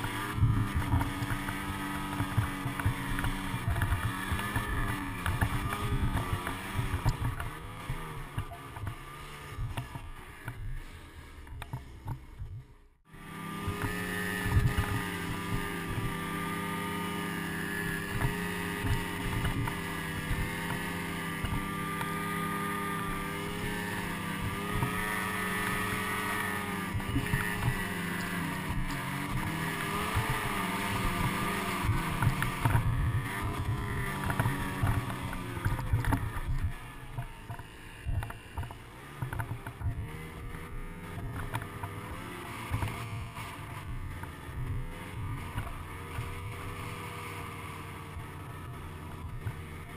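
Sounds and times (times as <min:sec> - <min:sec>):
snowmobile engine running: 0:00.0 - 0:49.9.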